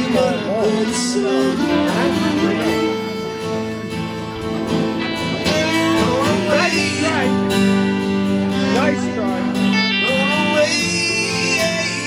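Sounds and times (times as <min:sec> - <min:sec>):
acoustic band with guitar: 0:00.0 - 0:12.0.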